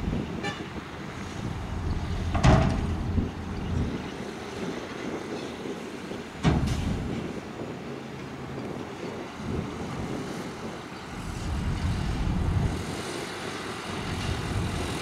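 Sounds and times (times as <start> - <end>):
heavy trucks and bulldozer rumbling: 0.0 - 15.0.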